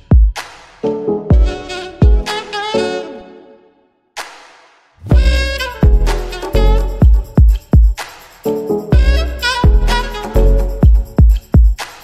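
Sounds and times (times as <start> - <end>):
electronic music with kick drum: 0.0 - 2.9, 5.0 - 12.0.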